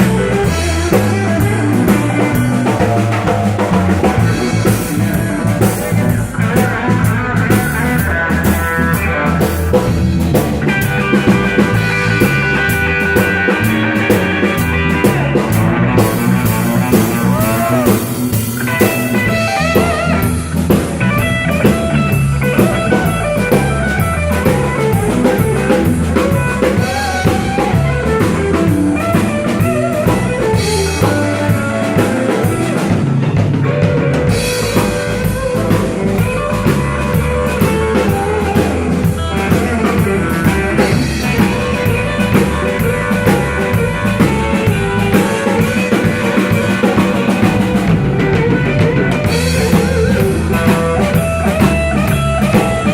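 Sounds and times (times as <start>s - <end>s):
blues guitar with bent notes: 0.0s - 52.9s
drum kit beat: 0.0s - 52.9s.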